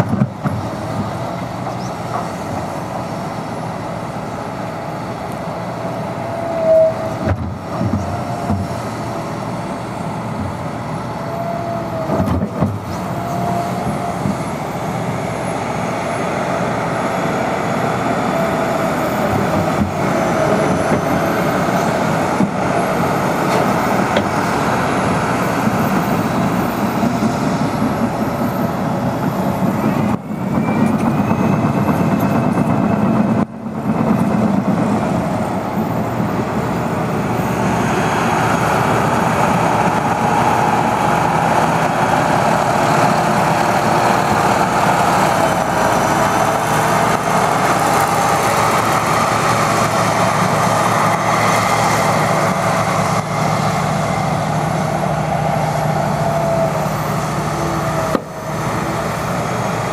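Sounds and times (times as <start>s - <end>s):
diesel engine under load: 0.0s - 59.9s
hydraulics whining: 0.0s - 59.9s.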